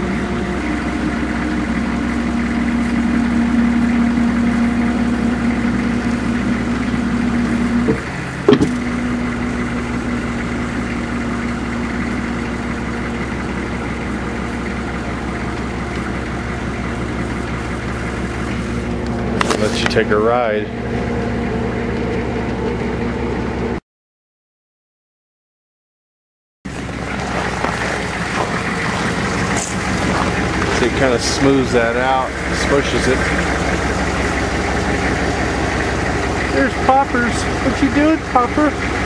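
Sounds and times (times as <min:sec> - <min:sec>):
truck engine idling: 0:00.0 - 0:23.8, 0:26.7 - 0:39.0.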